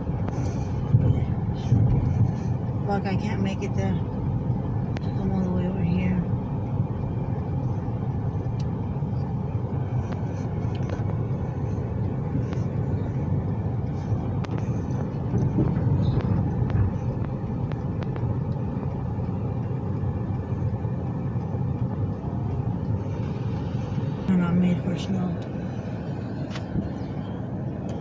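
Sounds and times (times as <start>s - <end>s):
faint ticks: 0.0s - 24.3s, 25.3s - 28.0s
road vehicle low rumble: 0.0s - 28.0s.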